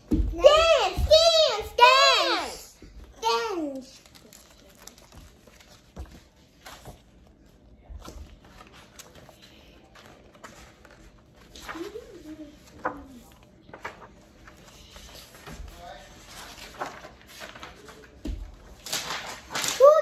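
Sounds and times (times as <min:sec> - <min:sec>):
book pages flipping: 0:03.6 - 0:20.0.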